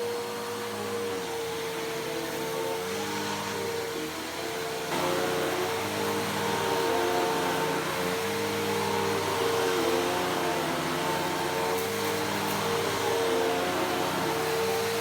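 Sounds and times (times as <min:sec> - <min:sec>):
upright vacuum cleaner running: 0:00.0 - 0:15.0.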